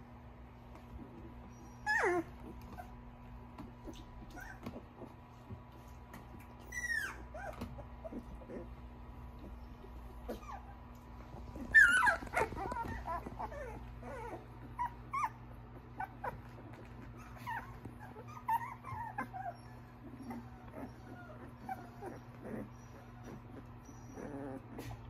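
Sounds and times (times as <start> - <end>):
puppies crying and whining: 1.0 - 25.0.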